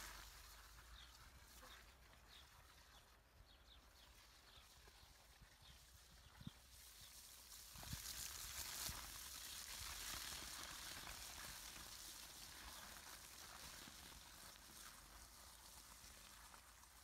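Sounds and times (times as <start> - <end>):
hose water pouring onto soil: 0.0 - 17.0.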